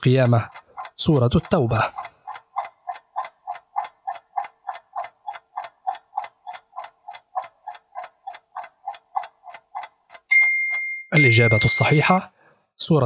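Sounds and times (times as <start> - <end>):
clock ticking timer: 0.0 - 12.2.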